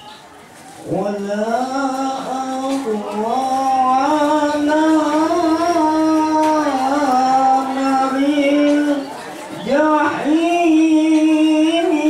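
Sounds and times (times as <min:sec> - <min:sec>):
person chanting devotional song: 0:00.8 - 0:12.0.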